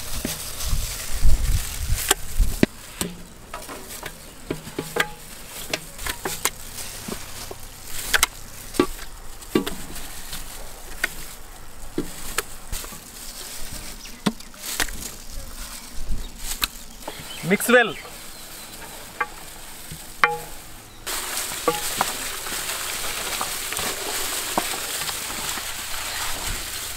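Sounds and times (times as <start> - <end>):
steady high hiss: 0.0 - 26.9.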